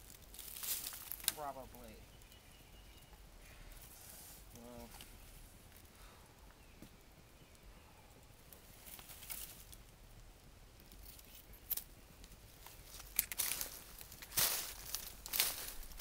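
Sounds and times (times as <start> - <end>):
brush and branches rustling: 0.0 - 16.0.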